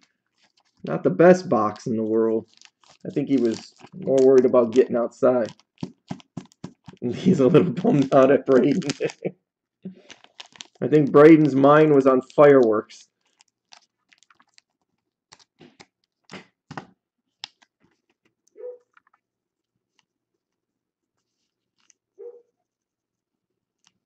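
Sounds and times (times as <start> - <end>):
cards and packaging rustling: 0.0 - 9.3, 9.9 - 22.1.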